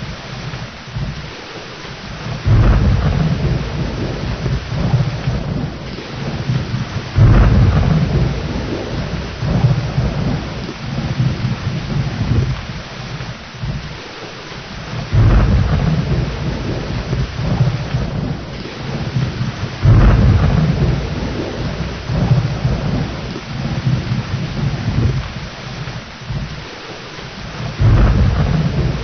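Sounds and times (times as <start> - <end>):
rolling thunder: 0.0 - 1.4, 2.1 - 14.0, 14.7 - 26.7, 27.4 - 29.0
steady rain: 0.0 - 29.0.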